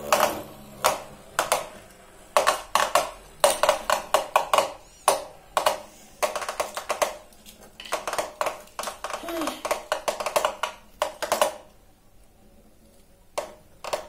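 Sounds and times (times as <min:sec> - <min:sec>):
plastic spinning tops clacking: 0:00.0 - 0:11.8, 0:13.4 - 0:14.0.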